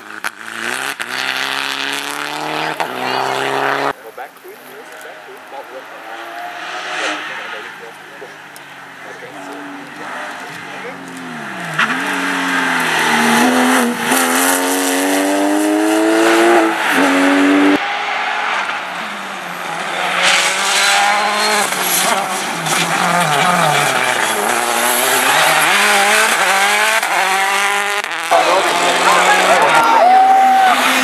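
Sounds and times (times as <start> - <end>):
rally car engine accelerating: 0.0 - 31.0
turbo rally car revving: 0.0 - 31.0.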